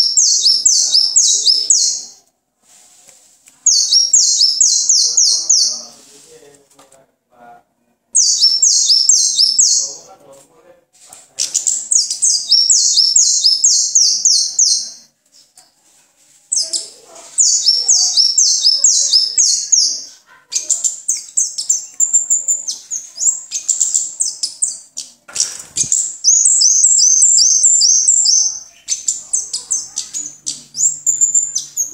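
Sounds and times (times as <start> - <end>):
songbird chirping: 0.0 - 6.9, 8.1 - 10.4, 11.0 - 31.9.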